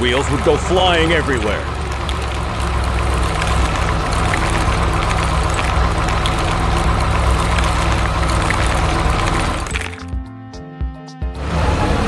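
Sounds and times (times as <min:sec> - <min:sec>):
road roller engine running: 0:00.0 - 0:10.2, 0:11.4 - 0:12.0.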